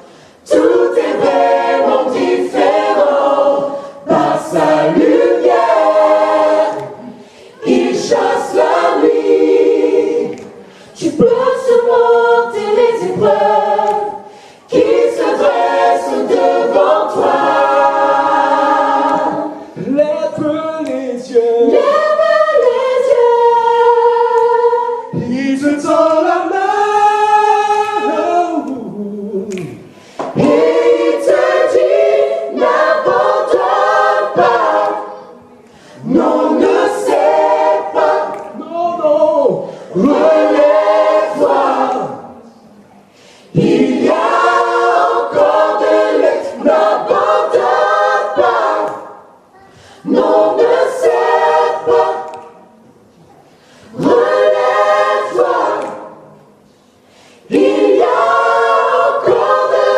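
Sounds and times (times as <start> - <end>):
vocal group singing a cappella: 0.0 - 59.9.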